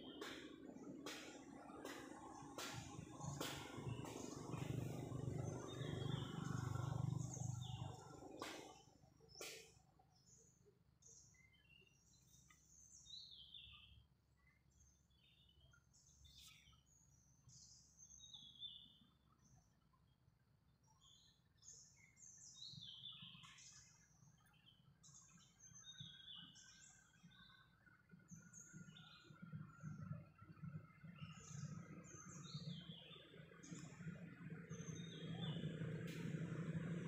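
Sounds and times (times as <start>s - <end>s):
faint birds chirping: 0.0s - 37.0s
low steady hum: 0.0s - 37.0s.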